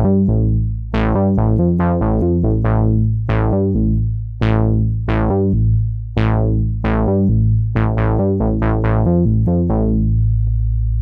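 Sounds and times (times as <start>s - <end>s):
deep synth bass notes: 0.0s - 11.0s.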